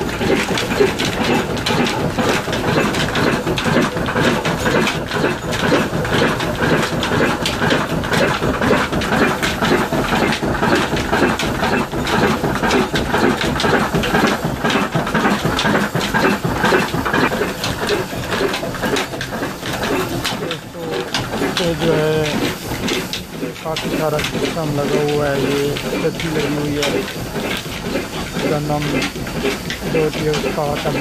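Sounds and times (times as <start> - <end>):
diesel engine knocking steadily: 0.0 - 31.0.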